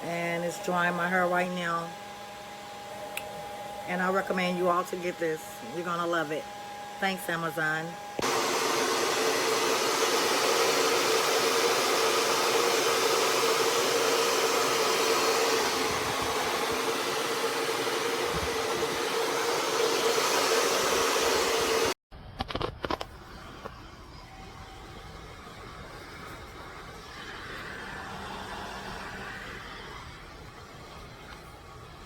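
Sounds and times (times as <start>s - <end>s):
hair dryer blowing: 0.0s - 22.0s, 22.9s - 32.0s.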